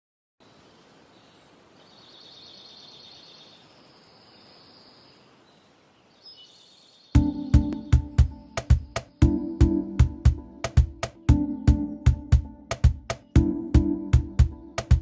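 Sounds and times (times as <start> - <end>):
faint outdoor background noise: 0.4 - 15.0.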